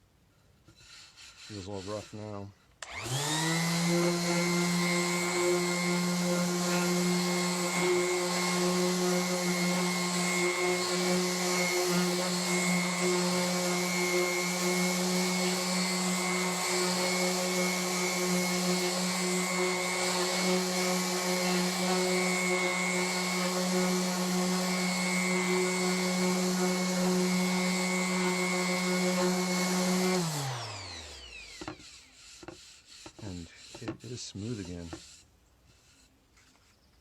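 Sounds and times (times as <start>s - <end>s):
sandpaper hissing on wood: 0.6s - 2.6s, 3.8s - 36.8s
orbit sander motor hum: 2.8s - 35.2s.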